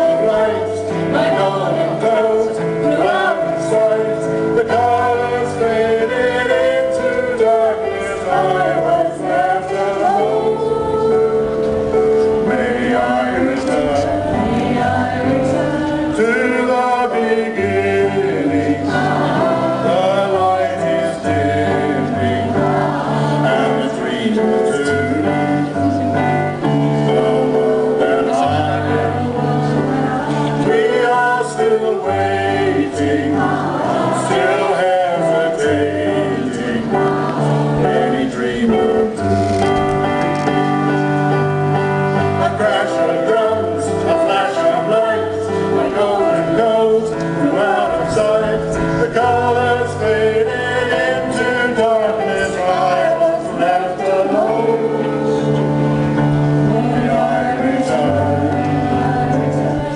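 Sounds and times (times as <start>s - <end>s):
man singing: 0.0s - 11.3s, 12.3s - 22.8s, 23.4s - 39.8s, 42.2s - 55.8s, 56.6s - 59.9s
keyboard accompaniment: 0.0s - 59.9s.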